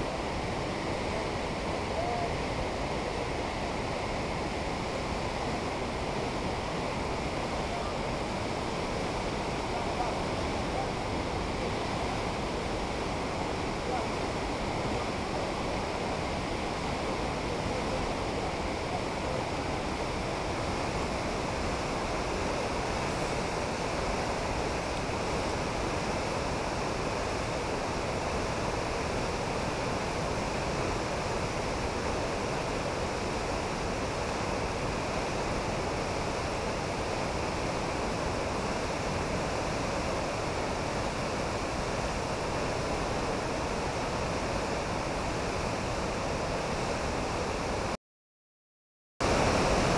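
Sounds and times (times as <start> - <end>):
river rushing through rapids: 0.0 - 48.0, 49.2 - 49.9.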